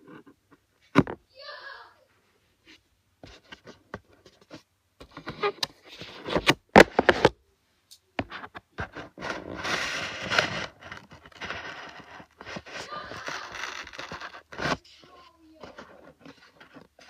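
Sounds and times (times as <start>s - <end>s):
rustling and scraping: 0.0s - 7.4s, 8.2s - 17.0s.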